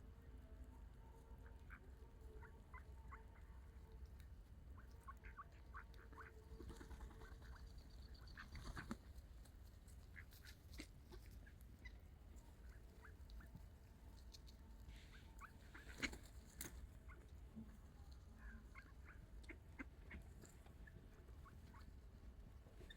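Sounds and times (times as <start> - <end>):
ducks calling faintly: 0.0 - 22.9.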